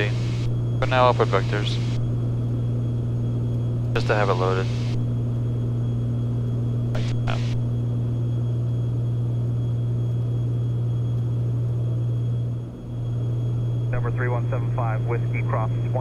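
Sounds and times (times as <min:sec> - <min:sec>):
aircraft engines droning in cockpit: 0:00.0 - 0:16.0.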